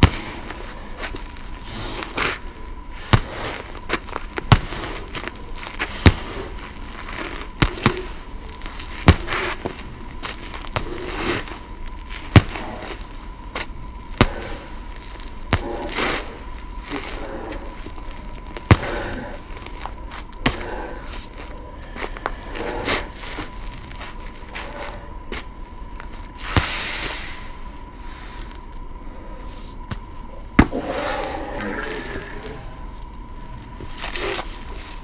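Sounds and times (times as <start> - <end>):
faint steady tone: 0.0 - 35.0.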